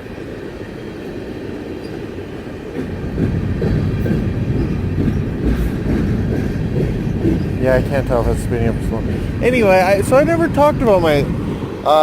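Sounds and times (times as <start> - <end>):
train passing slowly: 0.0 - 12.0.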